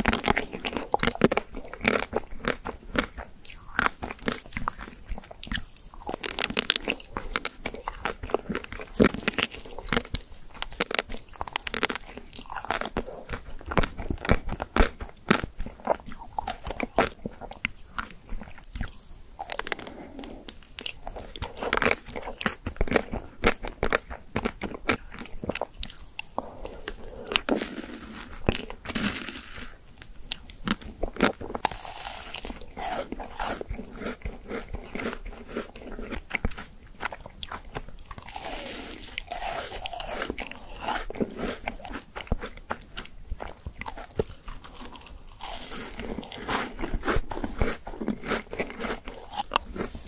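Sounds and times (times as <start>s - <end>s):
chewing: 0.0s - 50.0s
crunchy bites into ice cream: 0.0s - 50.0s.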